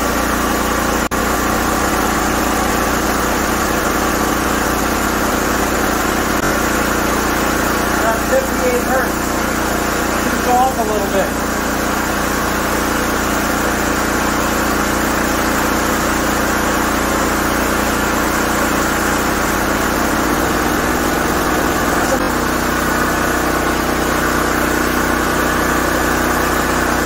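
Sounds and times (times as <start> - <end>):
generator engine running: 0.0 - 27.0.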